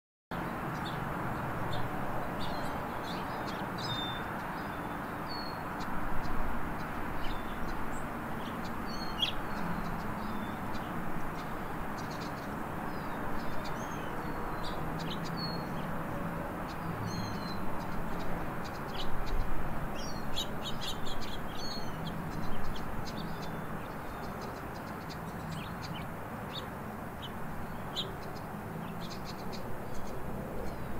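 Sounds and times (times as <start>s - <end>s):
finch chirping and twittering: 0.4s - 30.9s.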